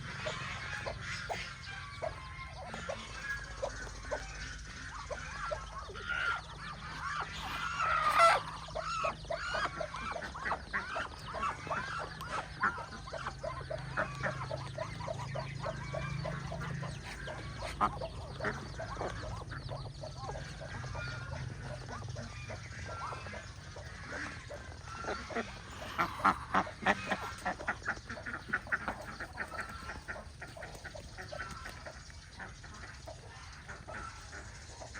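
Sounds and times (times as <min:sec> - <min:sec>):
ducks quacking: 0:00.0 - 0:34.9.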